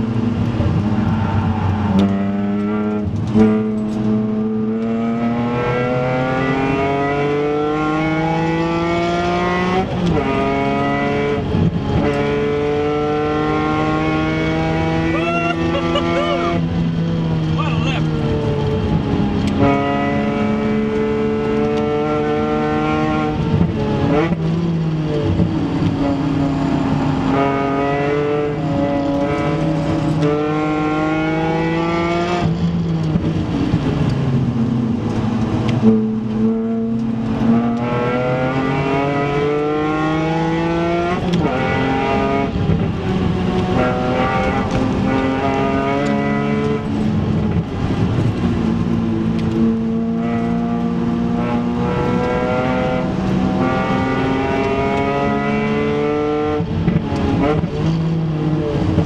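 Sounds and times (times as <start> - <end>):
car engine revving from inside cabin: 1.9 - 34.0, 34.6 - 59.0.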